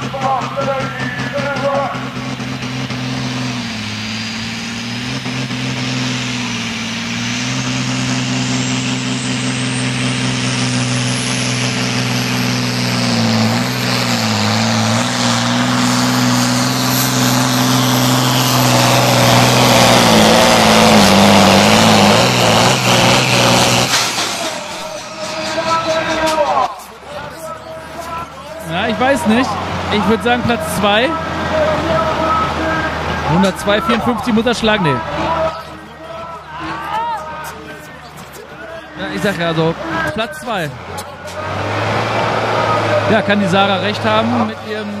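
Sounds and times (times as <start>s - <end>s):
diesel engine under full load: 0.0s - 45.0s.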